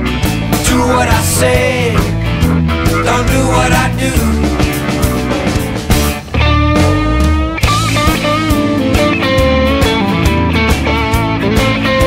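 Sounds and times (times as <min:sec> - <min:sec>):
rock band instrumental: 0:00.0 - 0:12.0.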